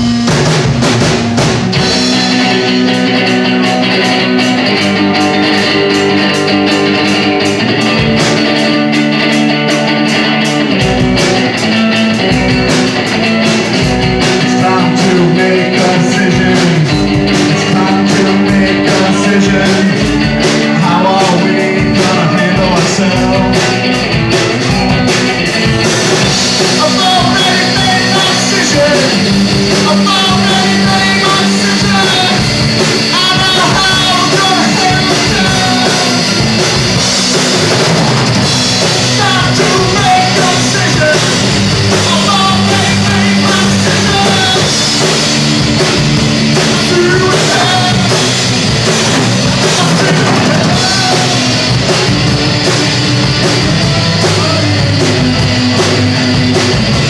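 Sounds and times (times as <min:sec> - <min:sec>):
amplified electric guitars: 0:00.0 - 0:57.0
drum kit: 0:00.0 - 0:57.0.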